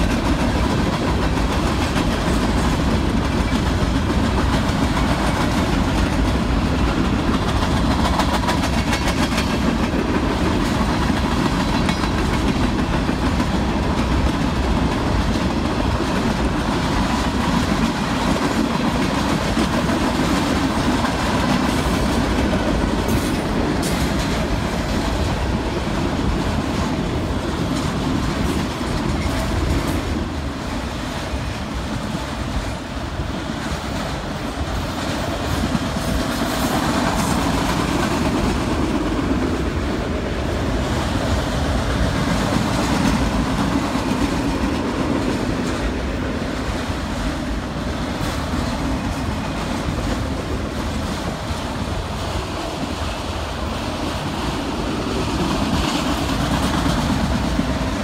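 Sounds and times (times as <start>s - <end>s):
freight train rumbling: 0.0s - 58.0s
wheels clacking over rail joints: 0.0s - 58.0s.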